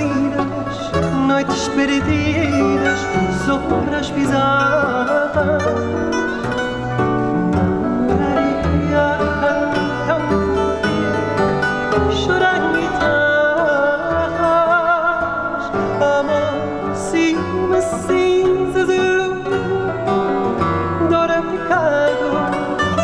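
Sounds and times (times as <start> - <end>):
classical guitar chords: 0.0 - 23.0
man singing with vibrato: 0.0 - 23.0
plucked bass line: 0.0 - 23.0
plucked guitar runs: 0.0 - 23.0.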